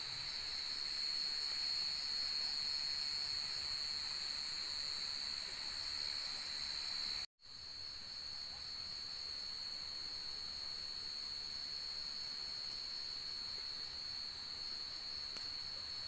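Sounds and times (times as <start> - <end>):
forest insects trilling: 0.0 - 16.0.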